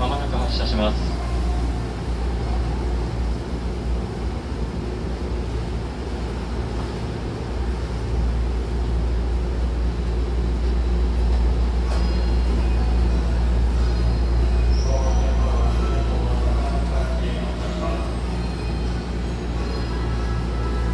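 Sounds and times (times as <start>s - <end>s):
electric train humming: 0.0s - 20.9s.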